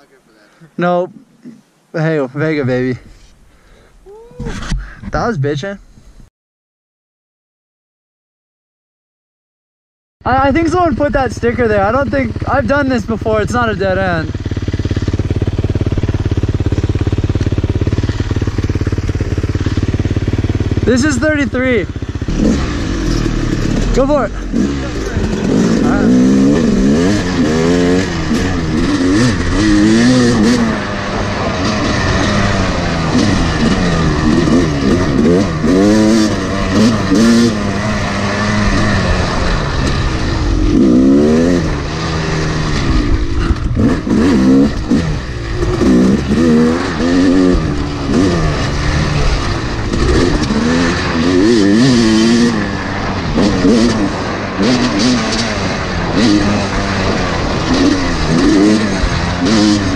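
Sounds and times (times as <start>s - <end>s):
dirt bike engine revving: 10.3s - 59.9s.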